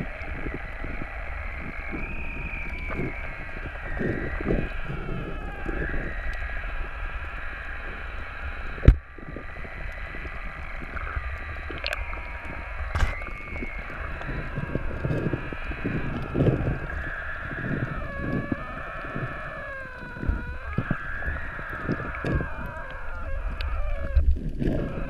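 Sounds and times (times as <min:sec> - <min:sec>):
faint wavering whines: 0:00.0 - 0:25.0
underwater rush of water: 0:00.0 - 0:25.0.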